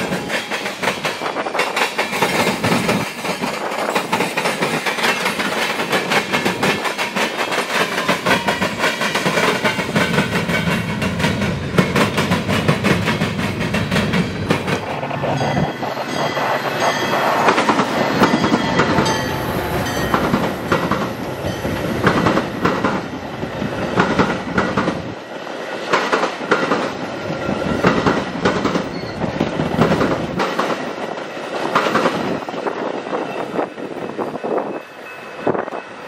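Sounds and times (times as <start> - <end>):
clickety-clack over rail joints: 0.0 - 36.0
train wheels rumbling on rail: 0.0 - 36.0.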